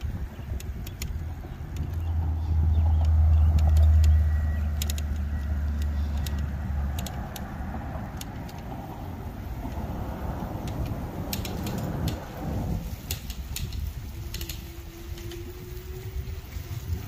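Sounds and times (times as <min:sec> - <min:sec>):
light clicks and rattles: 0:00.0 - 0:17.0
vehicle passing rumble: 0:00.0 - 0:17.0.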